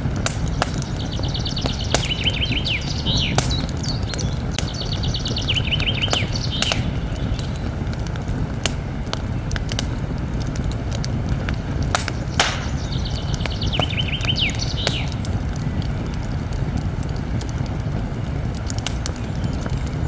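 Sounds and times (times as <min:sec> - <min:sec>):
songbird singing: 0:00.0 - 0:10.3, 0:11.6 - 0:16.4, 0:19.0 - 0:20.0
campfire crackling and popping: 0:00.0 - 0:20.0.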